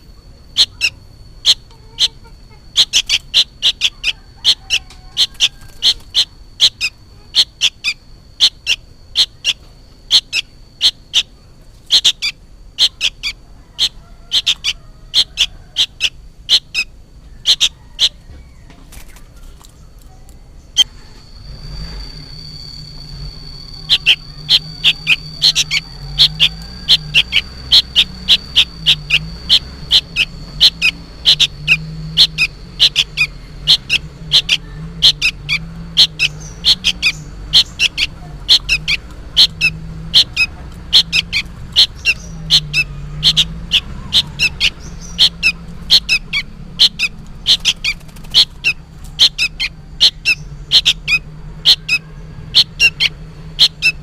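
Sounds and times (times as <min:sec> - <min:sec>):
young bird sharp calls: 0:00.5 - 0:18.2, 0:21.6 - 0:54.0.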